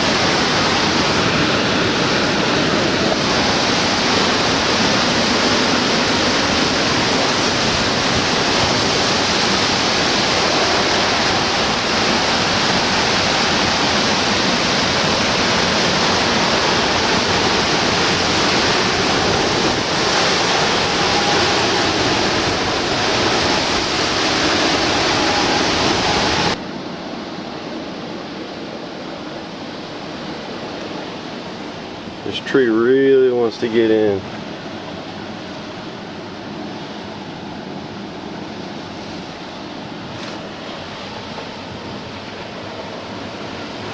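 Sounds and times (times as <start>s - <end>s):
hurricane wind rushing: 0.0s - 43.9s.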